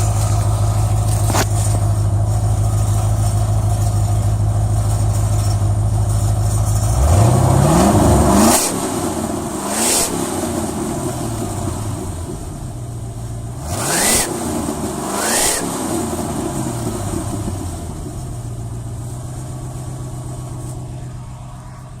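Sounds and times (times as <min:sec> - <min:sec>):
engine hiss: 0:00.0 - 0:22.0
truck engine revving and idling: 0:00.0 - 0:22.0.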